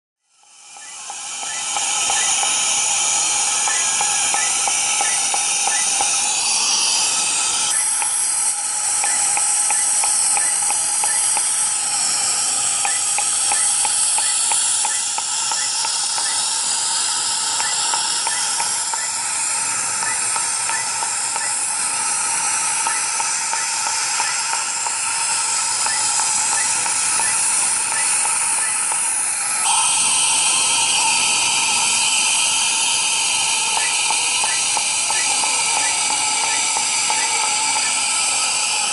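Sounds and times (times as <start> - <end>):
faint laser pulse ticks: 0.3 - 38.9
laser unit loud hiss: 0.3 - 38.9.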